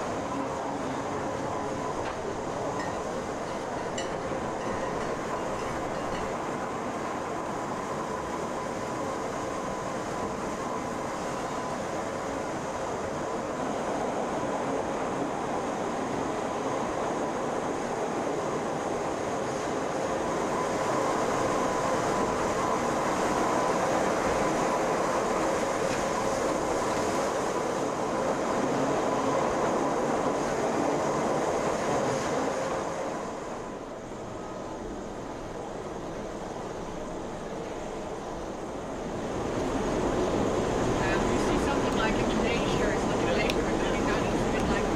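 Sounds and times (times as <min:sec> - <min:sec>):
train rolling rumble: 0:00.0 - 0:44.9.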